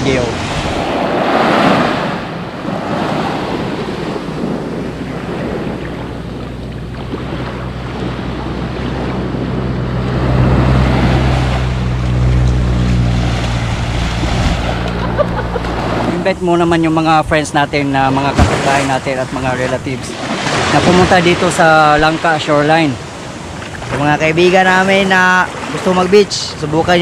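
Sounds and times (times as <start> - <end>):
sea waves washing on beach: 0.0 - 27.0
wind buffeting microphone: 0.0 - 27.0.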